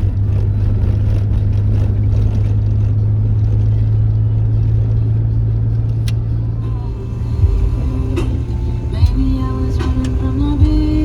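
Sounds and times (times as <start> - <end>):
vehicle engine and road drone: 0.0 - 11.0.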